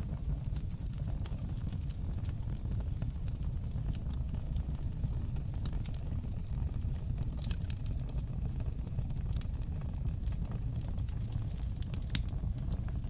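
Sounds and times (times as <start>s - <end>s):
fire crackling and popping: 0.0s - 13.0s
fire rumbling in fireplace: 0.0s - 13.0s.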